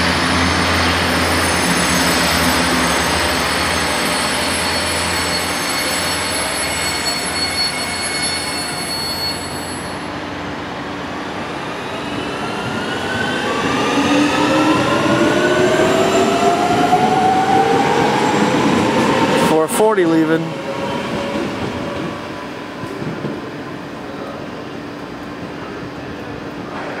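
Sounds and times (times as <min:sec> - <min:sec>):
train hum with high tones: 0:00.0 - 0:19.6, 0:20.4 - 0:27.0.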